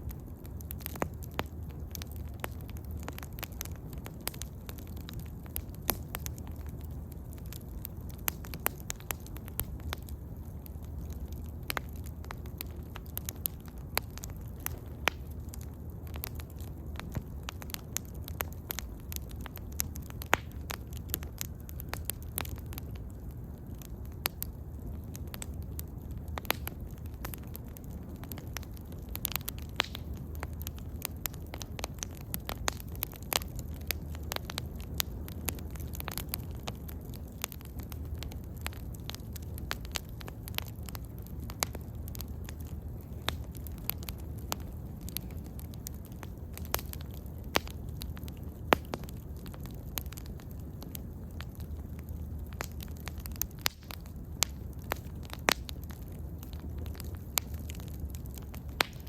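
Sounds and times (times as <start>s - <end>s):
bonfire crackling: 0.0s - 59.0s
low steady rumble: 0.0s - 59.0s.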